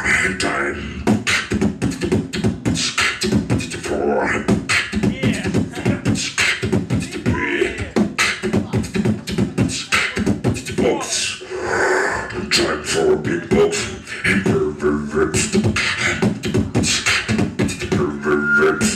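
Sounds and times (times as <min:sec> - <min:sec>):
beatboxing drum hits: 0:00.0 - 0:11.4, 0:12.2 - 0:18.9
voiced pitched mouth sounds: 0:00.0 - 0:18.9.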